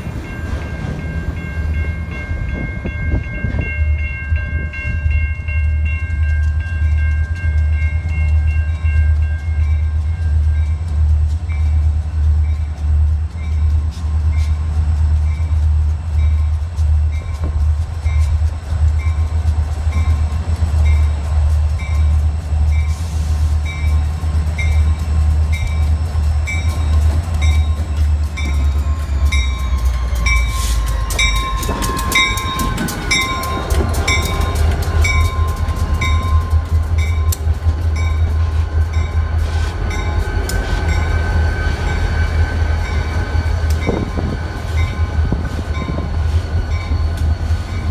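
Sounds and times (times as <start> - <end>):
train rattling and clatter: 0.0 - 47.9
train rumbling past: 0.0 - 47.9.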